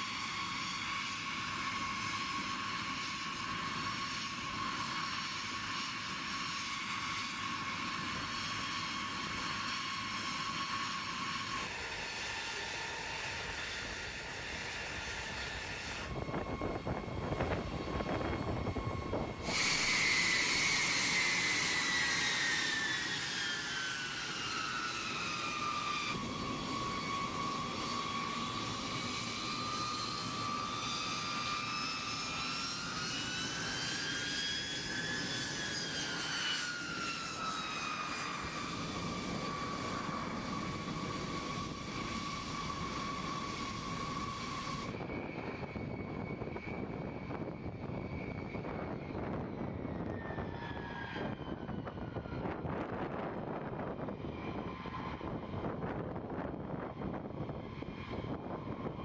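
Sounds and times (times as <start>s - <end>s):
jet engines whining and rumbling: 0.0s - 59.0s.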